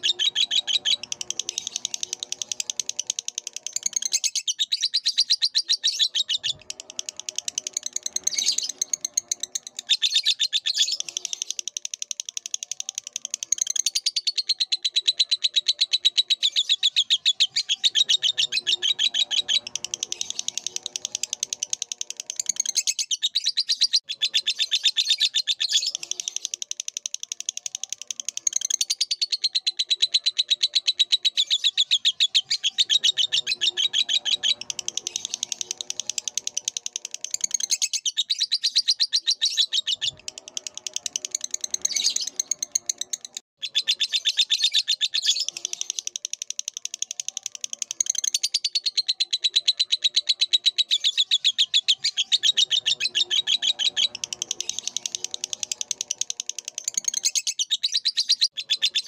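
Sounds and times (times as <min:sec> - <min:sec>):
lovebird chirping: 0:00.0 - 0:59.0.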